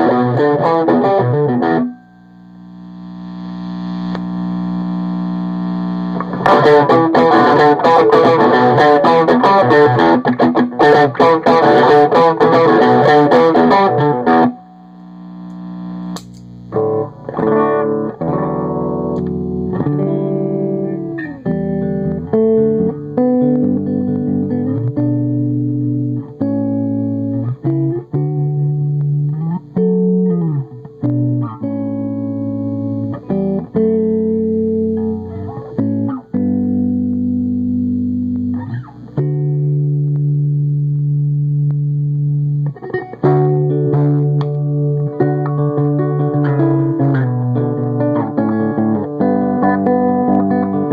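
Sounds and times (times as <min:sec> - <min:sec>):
electric guitar through tube amp: 0:00.0 - 0:50.9.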